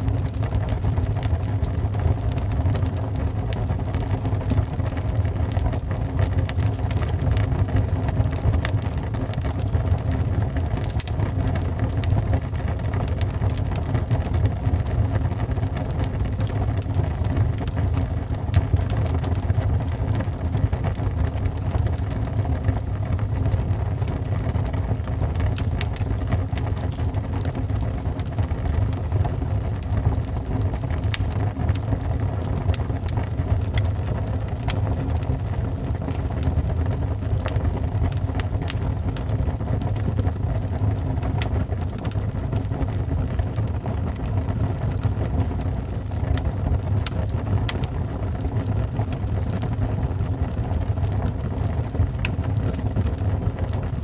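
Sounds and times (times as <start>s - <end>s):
fire crackles and pops: 0.0s - 54.0s
wood fire roaring: 0.0s - 54.0s.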